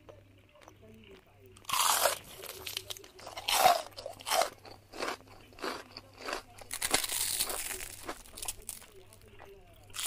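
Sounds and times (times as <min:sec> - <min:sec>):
crisp shells crunching when bitten: 0:01.6 - 0:10.0.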